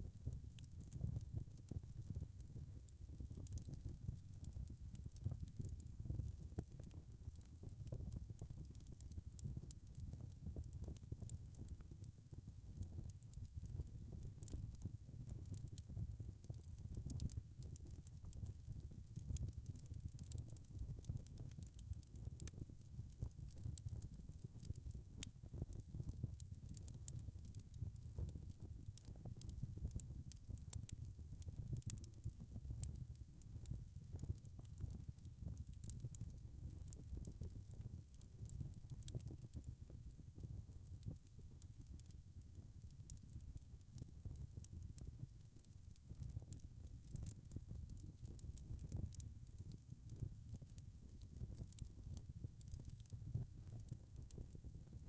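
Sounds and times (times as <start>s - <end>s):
fire pops and ticks: 0.1s - 55.0s
wood fire crackling: 0.2s - 55.0s.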